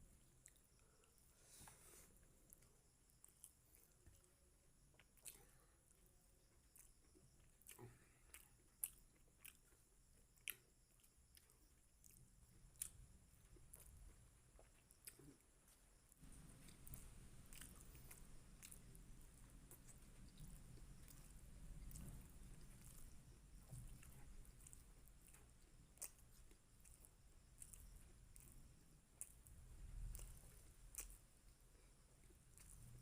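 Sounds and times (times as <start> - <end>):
person chewing food: 0.2 - 33.0.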